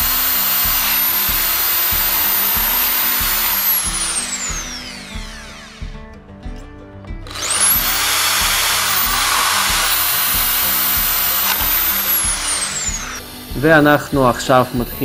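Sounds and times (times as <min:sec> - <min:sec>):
drill grinding into tile: 0:00.0 - 0:06.1, 0:07.3 - 0:15.0
background music with beat: 0:00.0 - 0:15.0.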